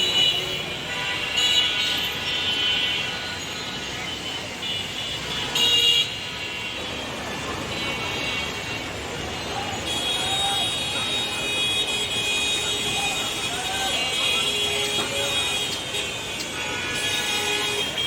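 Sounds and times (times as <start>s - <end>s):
dense street traffic: 0.0s - 18.0s
vehicle horns honking: 0.0s - 18.0s.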